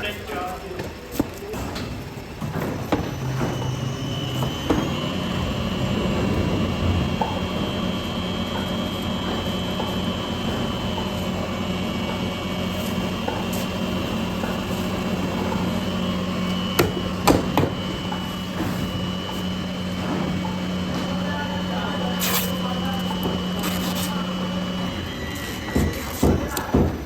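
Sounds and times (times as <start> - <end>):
factory machinery humming: 0.0 - 27.0.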